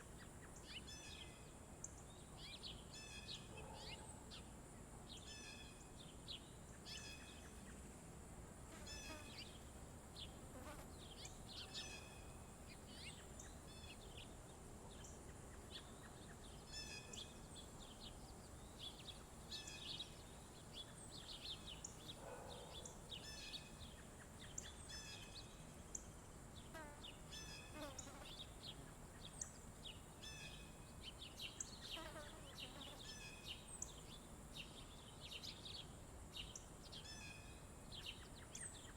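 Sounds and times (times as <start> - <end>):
faint high-pitched hiss: 0.0 - 38.9
songbirds chirping and twittering: 0.0 - 38.9.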